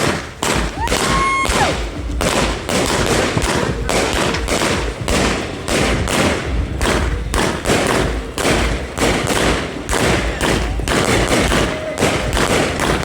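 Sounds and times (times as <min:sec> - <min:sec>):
firework cake firing loud bangs: 0:00.0 - 0:13.0.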